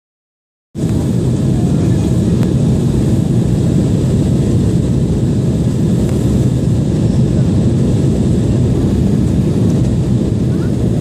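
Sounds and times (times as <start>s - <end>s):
airplane deep rumble: 0.8s - 11.0s.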